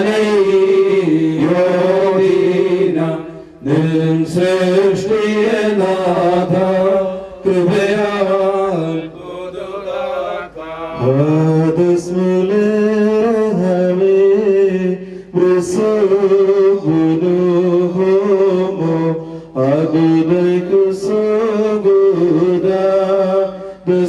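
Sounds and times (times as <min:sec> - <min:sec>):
men chanting a hymn: 0:00.0 - 0:24.0.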